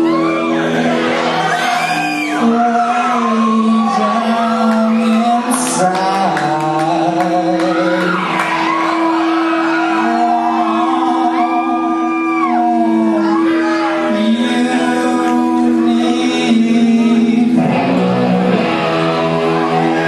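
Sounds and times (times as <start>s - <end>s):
drums: 0.0s - 20.0s
electric guitars: 0.0s - 20.0s
person singing: 0.0s - 20.0s.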